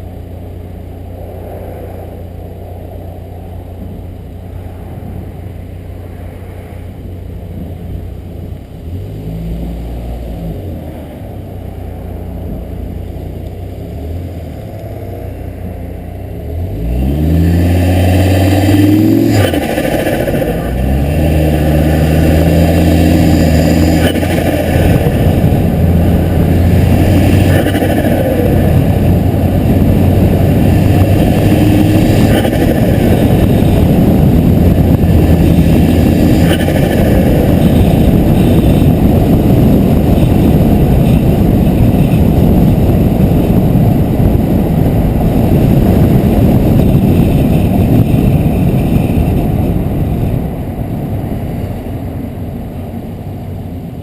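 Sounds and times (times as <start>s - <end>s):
driving noise rush: 0.0s - 54.0s
engine hum: 0.0s - 54.0s.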